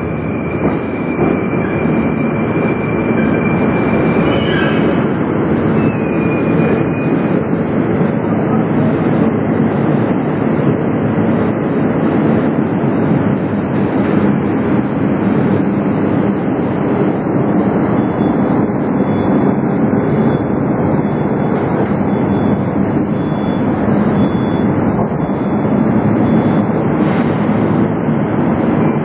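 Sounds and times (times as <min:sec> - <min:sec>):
metro train rumble: 0:00.0 - 0:29.0.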